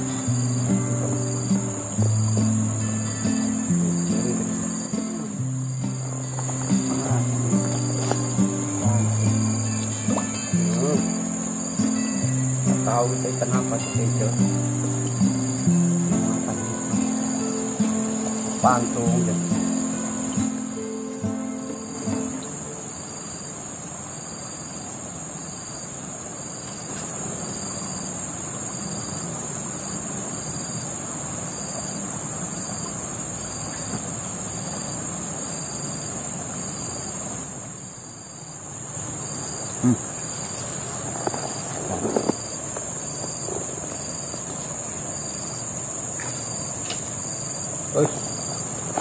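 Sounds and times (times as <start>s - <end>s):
insect pulsing rhythmically: 0.0s - 26.6s, 27.2s - 49.0s
forest insects droning: 0.0s - 49.0s.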